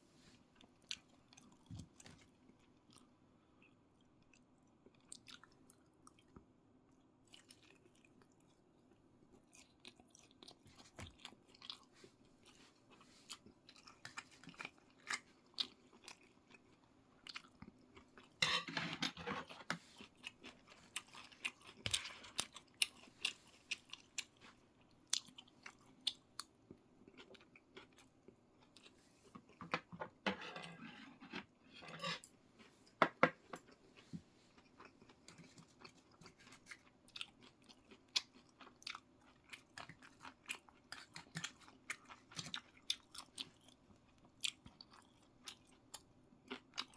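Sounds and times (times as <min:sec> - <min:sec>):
person chewing food: 0:00.5 - 0:46.9.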